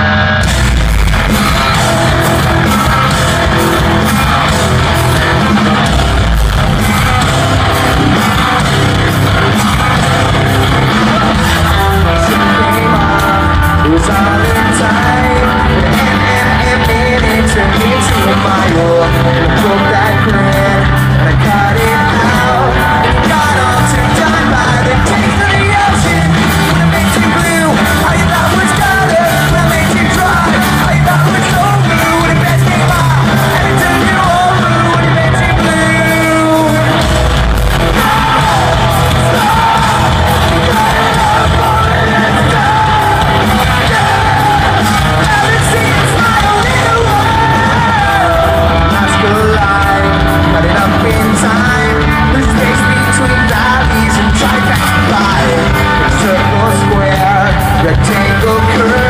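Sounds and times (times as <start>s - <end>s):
rock band playing live: 0.0s - 59.0s
singer singing and yelling: 0.0s - 59.0s.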